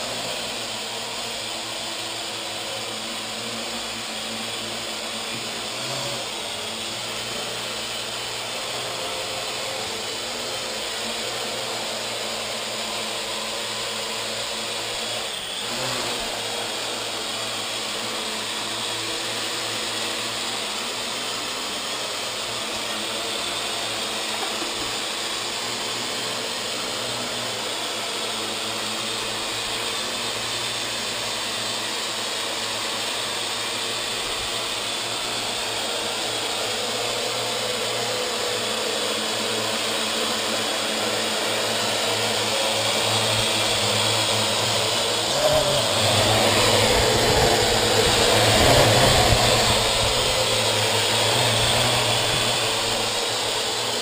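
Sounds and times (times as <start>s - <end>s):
quadcopter propellers whirring: 0.0s - 54.0s.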